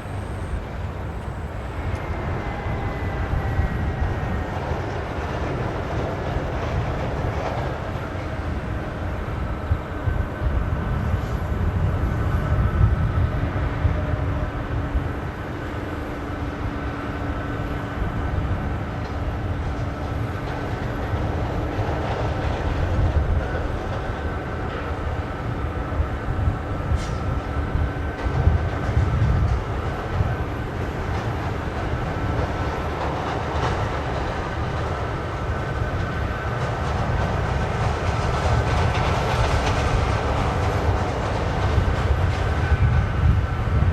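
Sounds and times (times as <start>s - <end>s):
jet engines running: 0.0s - 43.9s.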